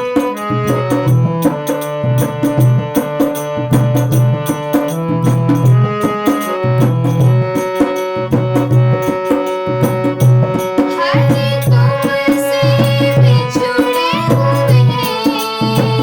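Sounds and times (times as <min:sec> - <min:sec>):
hand drums rhythm: 0:00.0 - 0:16.0.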